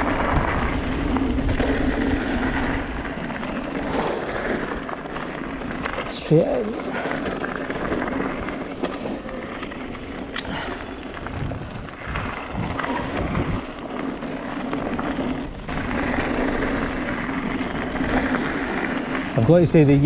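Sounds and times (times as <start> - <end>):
bike clicks and rattles: 0.0 - 20.0
tyres rolling over gravel: 0.0 - 20.0.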